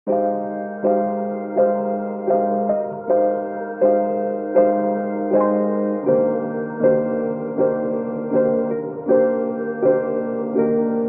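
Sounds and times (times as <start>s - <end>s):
soft piano-like background music: 0.1s - 11.0s.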